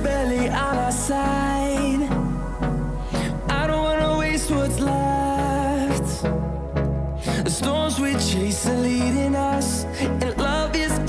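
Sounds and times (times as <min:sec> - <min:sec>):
pop song background music: 0:00.0 - 0:11.0.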